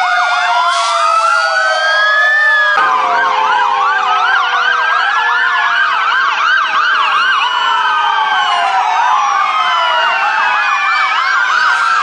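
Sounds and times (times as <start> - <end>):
fast yelping siren: 0.0 - 12.0
steady low siren tones: 0.0 - 12.0
wailing sirens: 0.0 - 12.0.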